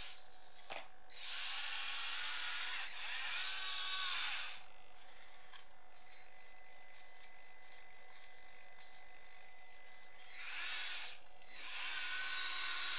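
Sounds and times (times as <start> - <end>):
toy electric motors whining: 0.0 - 9.0, 9.8 - 12.9.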